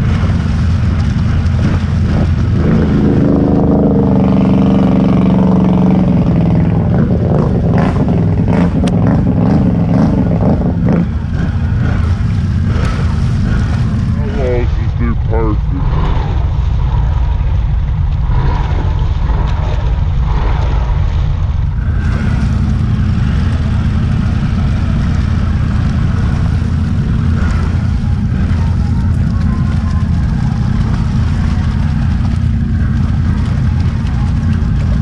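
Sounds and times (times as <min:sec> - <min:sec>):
quad engine rumbling: 0:00.0 - 0:35.0.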